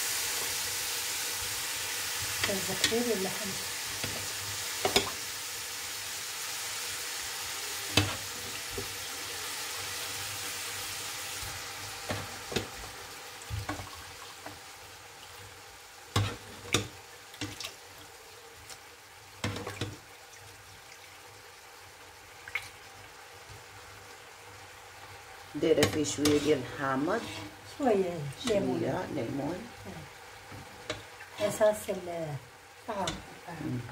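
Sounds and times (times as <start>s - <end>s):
onions and meat sizzling in a pan: 0.0s - 33.9s.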